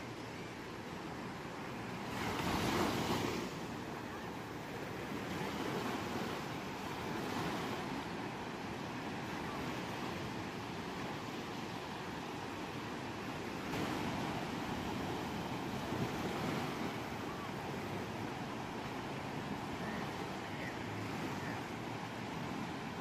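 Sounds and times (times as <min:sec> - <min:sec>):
ocean waves washing onto shore: 0:00.0 - 0:23.0.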